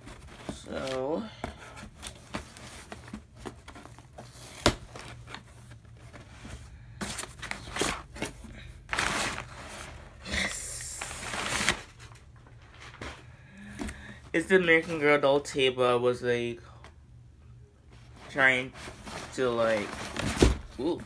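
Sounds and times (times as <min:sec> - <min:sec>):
packing paper rustling: 0:00.0 - 0:15.0, 0:18.0 - 0:21.0.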